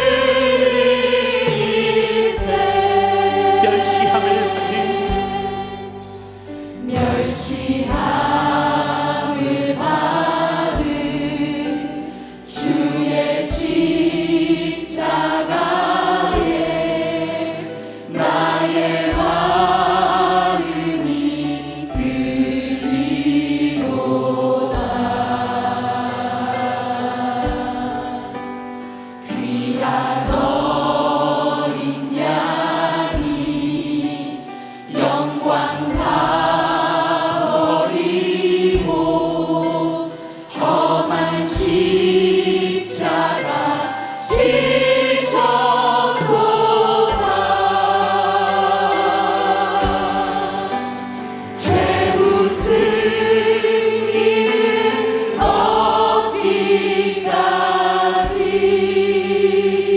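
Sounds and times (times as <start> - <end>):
choir and congregation singing hymn: 0.0 - 59.9
instrumental accompaniment: 0.0 - 59.9.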